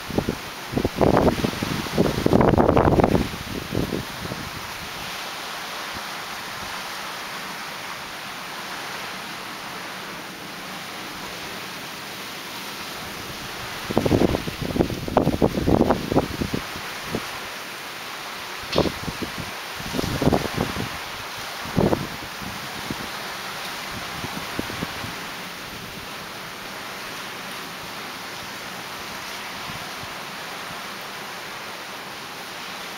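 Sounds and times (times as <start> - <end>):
surf hissing on a reef: 0.0 - 32.9.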